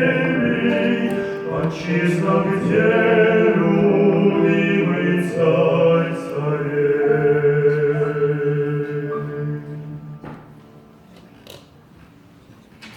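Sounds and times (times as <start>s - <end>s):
vocal harmony singing a hymn: 0.0s - 10.6s.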